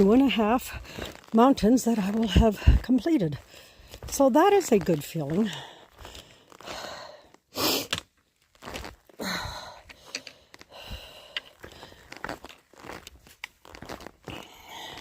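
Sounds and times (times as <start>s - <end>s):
footsteps on rocky dirt trail: 0.0s - 15.0s.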